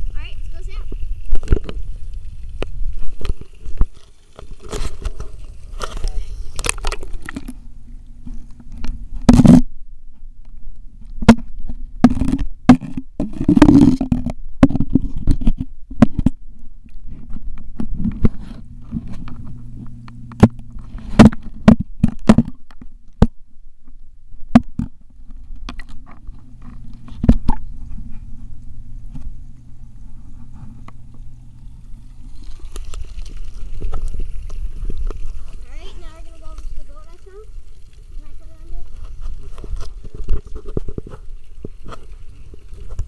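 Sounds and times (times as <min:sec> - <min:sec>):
steady low hum: 0:00.0 - 0:43.0
muffled underwater knocks and scrapes: 0:00.9 - 0:43.0.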